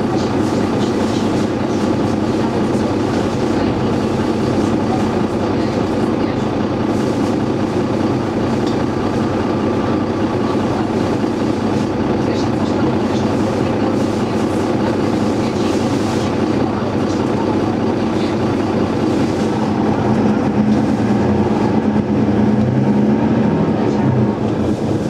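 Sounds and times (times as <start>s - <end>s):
bus engine droning: 0.0s - 25.0s.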